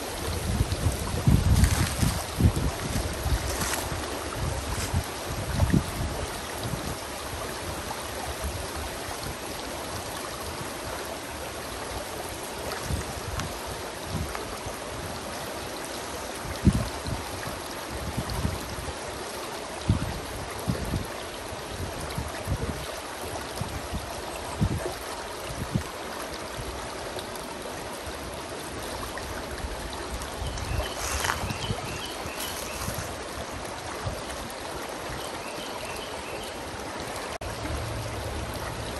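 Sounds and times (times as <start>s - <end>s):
creek rippling over stones: 0.0s - 38.9s.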